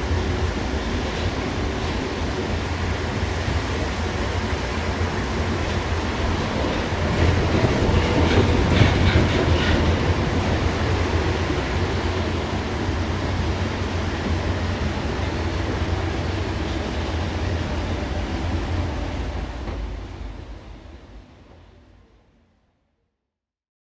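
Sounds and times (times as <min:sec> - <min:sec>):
metro car running rumble: 0:00.0 - 0:22.1.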